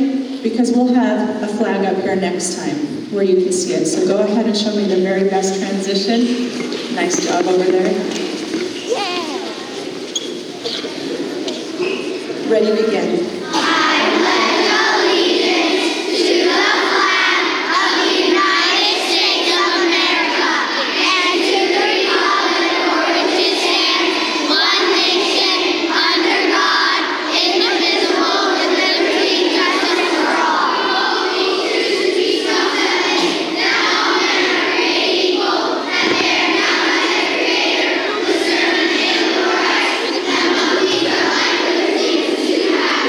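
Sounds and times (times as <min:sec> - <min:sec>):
children reciting in unison: 0:06.3 - 0:43.0.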